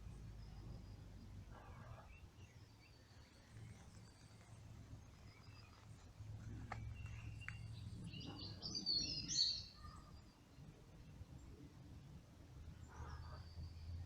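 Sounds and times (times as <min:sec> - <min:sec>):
low outdoor rumble: 0:00.0 - 0:14.0
small birds singing: 0:00.0 - 0:14.0.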